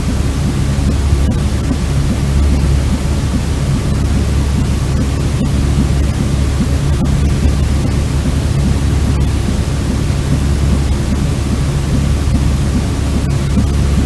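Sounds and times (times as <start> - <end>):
deep white noise: 0.0 - 14.0.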